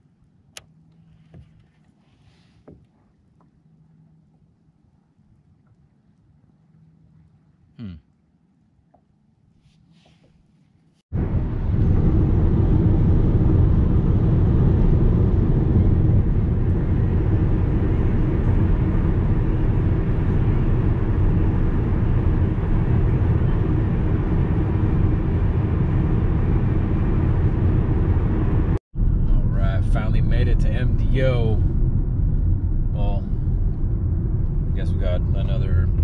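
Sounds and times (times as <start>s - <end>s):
car road and engine drone: 0.0s - 5.8s, 9.9s - 36.0s.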